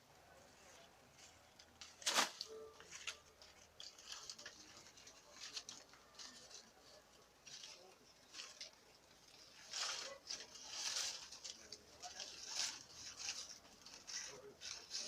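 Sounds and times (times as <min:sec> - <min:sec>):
rustling and crackling: 0:00.4 - 0:15.0.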